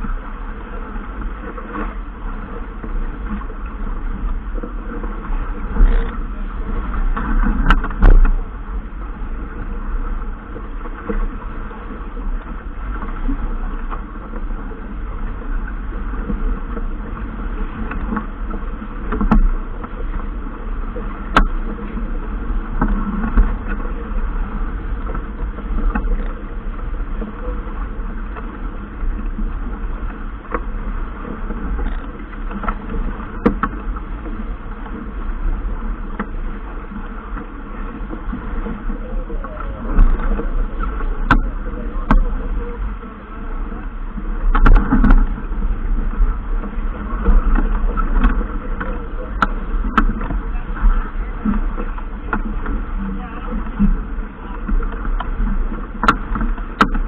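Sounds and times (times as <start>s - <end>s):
boat engine rumble: 0.0s - 57.0s.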